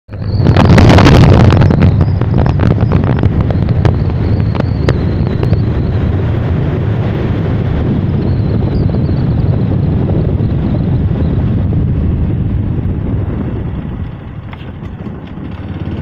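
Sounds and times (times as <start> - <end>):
vehicle rumble on road: 0.1 - 16.0
wind buffeting microphone: 0.1 - 16.0.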